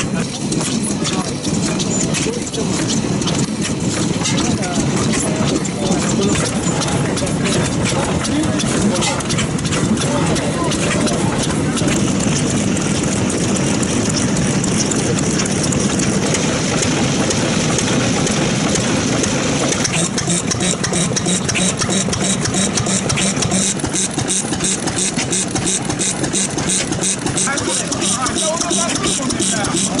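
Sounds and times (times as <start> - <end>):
stationary engine exhaust beats: 0.0 - 30.0.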